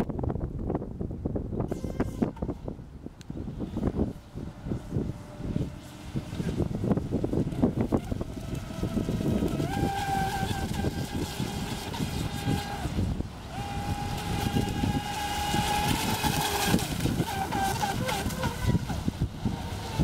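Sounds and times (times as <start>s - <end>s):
wind buffeting microphone: 0.0s - 20.0s
electric boat motor whining: 1.6s - 20.0s.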